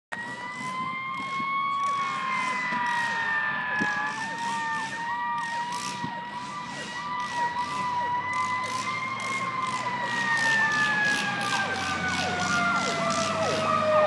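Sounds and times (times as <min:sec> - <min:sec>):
siren steady high tone: 0:00.1 - 0:14.0
siren yelp: 0:00.1 - 0:14.0.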